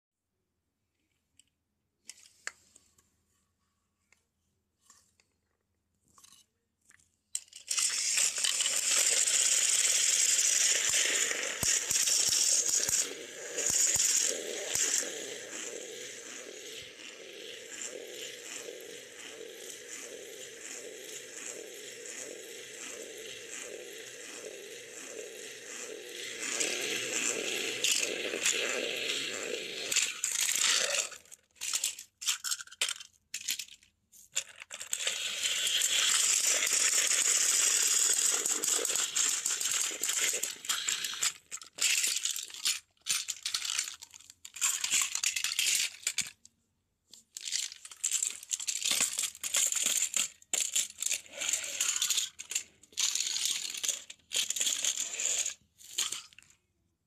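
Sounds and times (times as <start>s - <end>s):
toy train whirring on track: 7.4s - 46.5s, 47.2s - 56.6s.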